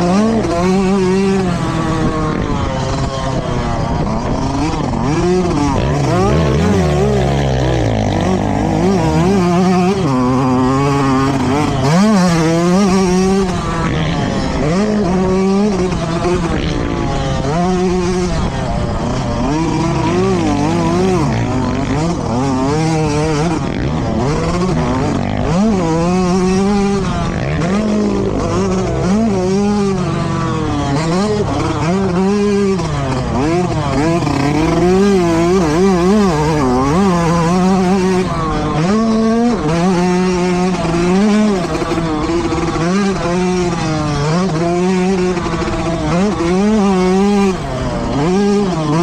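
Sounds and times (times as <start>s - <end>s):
motocross bike engines revving: 0.0s - 49.0s.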